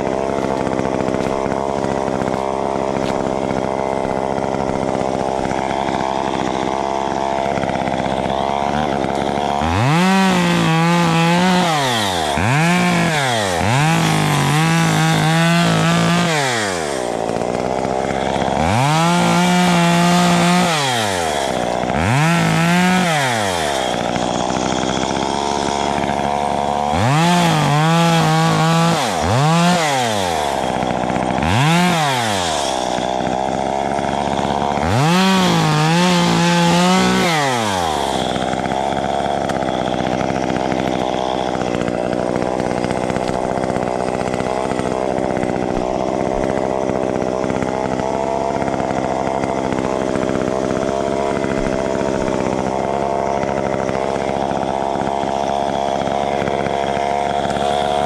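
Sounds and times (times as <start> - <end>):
chainsaw running and revving: 0.0 - 58.0.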